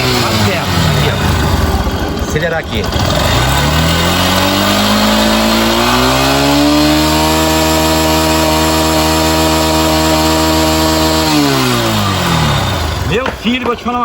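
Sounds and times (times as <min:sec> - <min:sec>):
small motorcycle engine revving: 0:00.0 - 0:13.5.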